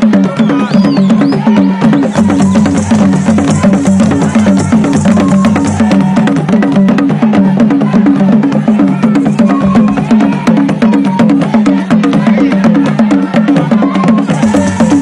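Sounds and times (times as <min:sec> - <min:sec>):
hand drums playing fast rhythm: 0:00.0 - 0:15.0.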